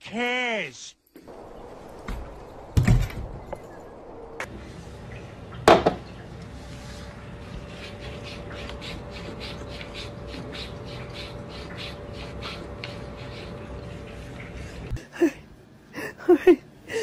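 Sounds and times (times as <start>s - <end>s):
faint hum: 1.0s - 17.0s.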